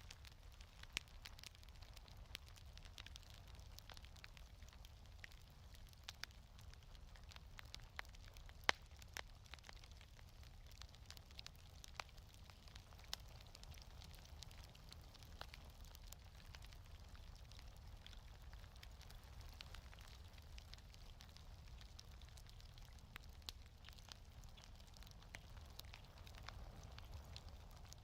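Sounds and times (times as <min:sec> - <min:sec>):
fire low rumble: 0:00.0 - 0:28.0
wood fire crackling: 0:00.0 - 0:28.0.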